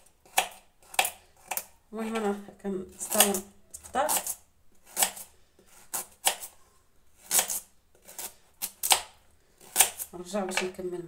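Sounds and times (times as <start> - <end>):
knife slicing carrot on board: 0.2 - 2.3, 3.0 - 6.5, 7.2 - 10.7.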